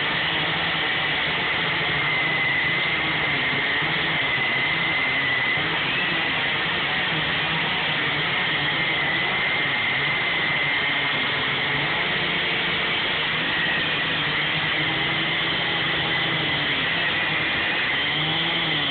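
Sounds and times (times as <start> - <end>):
chainsaws cutting at full throttle: 0.0 - 18.9.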